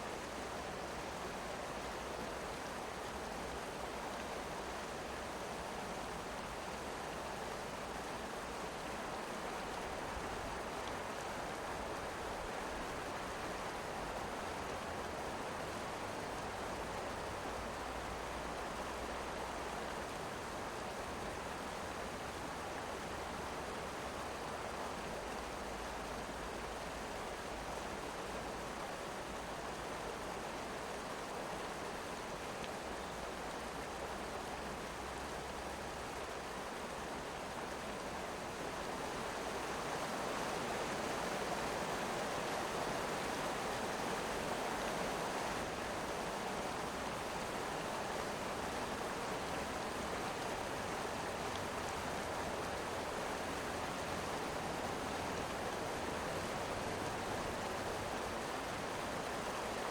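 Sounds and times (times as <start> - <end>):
mountain river rushing: 0.0 - 59.9.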